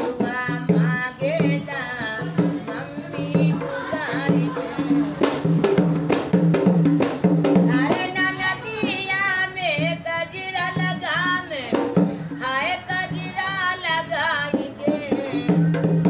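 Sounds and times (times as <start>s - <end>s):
woman singing in high voice: 0.0s - 5.2s, 7.6s - 15.9s.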